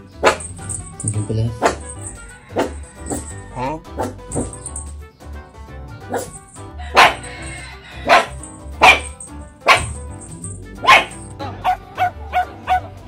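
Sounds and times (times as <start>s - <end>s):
background music: 0.0s - 13.0s
puppy barking: 0.2s - 0.8s, 1.5s - 4.7s, 6.1s - 12.9s.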